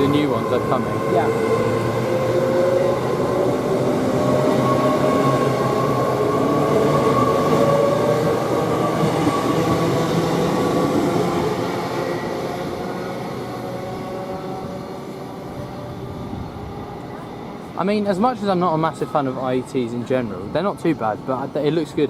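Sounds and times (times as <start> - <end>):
electric train passing: 0.0 - 22.0
rail noise: 0.0 - 22.0.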